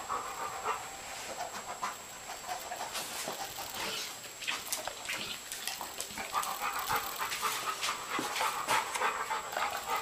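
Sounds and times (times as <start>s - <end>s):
dog panting: 0.0s - 4.2s, 5.5s - 10.0s.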